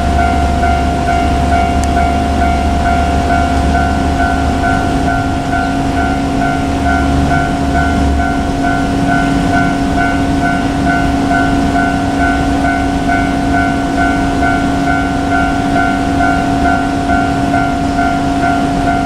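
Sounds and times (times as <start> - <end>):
diesel railcar rumble: 0.0 - 19.0
level-crossing warning bell ringing: 0.0 - 19.0.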